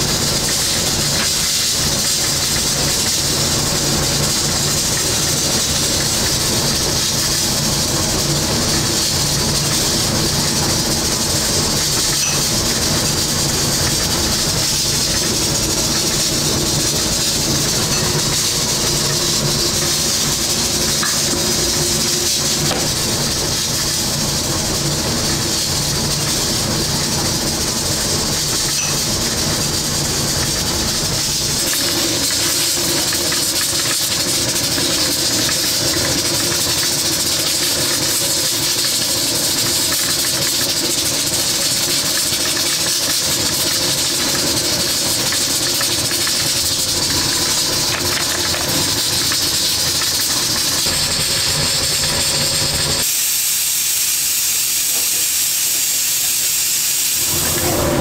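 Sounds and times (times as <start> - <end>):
steam hissing from pressure cookers: 0.0 - 58.0.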